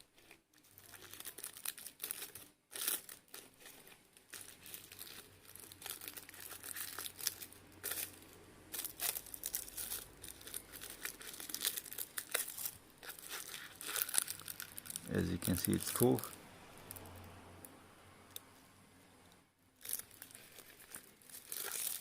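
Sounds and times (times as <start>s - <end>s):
paper crinkling and rustling: 0.0s - 17.0s, 19.8s - 22.0s.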